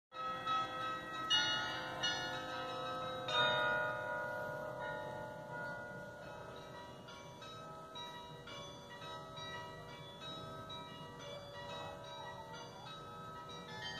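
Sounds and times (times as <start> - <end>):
church tower bells ringing: 0.1 - 13.9.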